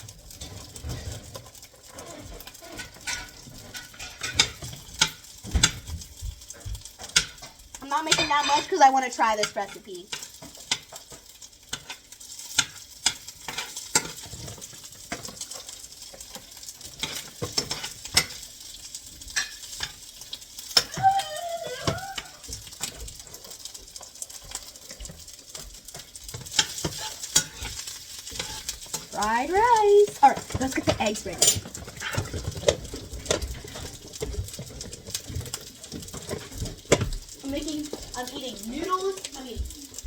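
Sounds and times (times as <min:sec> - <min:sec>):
utensil scraping a pan: 0:00.0 - 0:21.0, 0:21.8 - 0:38.6
rice sizzling in a pan: 0:00.0 - 0:40.0.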